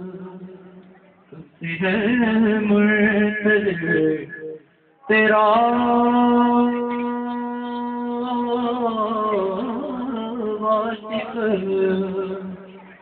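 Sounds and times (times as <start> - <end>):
man singing: 0.0 - 0.6, 1.3 - 4.4, 5.0 - 13.0.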